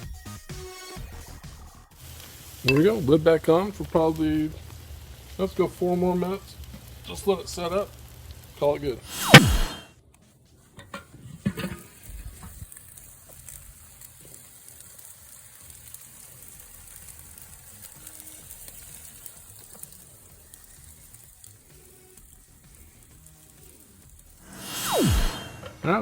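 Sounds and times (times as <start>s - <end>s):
chicken wings sizzling on a grill: 0.2s - 9.6s, 10.2s - 26.0s.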